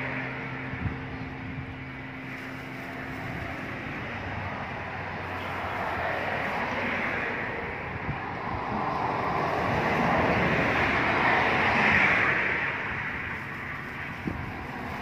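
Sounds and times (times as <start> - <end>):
passing vehicle engine hum: 0.0 - 15.0
rushing street background: 0.0 - 15.0.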